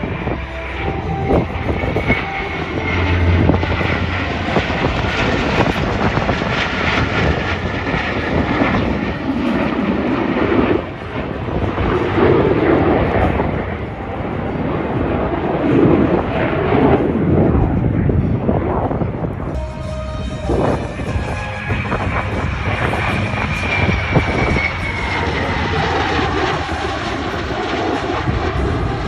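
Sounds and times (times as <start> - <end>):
fighter jets roaring past: 0.0 - 29.0.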